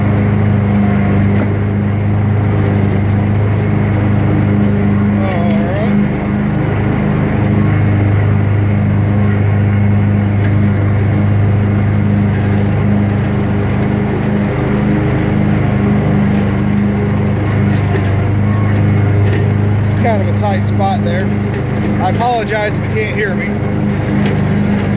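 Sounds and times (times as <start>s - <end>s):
lawn mower engine running: 0.0s - 24.9s.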